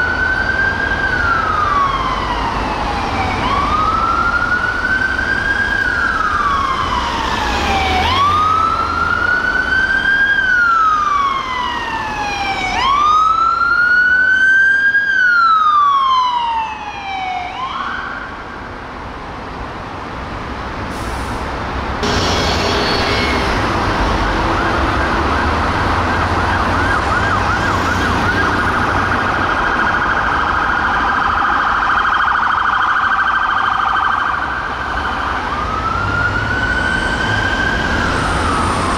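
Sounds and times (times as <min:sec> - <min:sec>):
ambulance siren: 0:00.0 - 0:18.8, 0:22.0 - 0:38.9
engine and traffic rumble: 0:00.0 - 0:38.9.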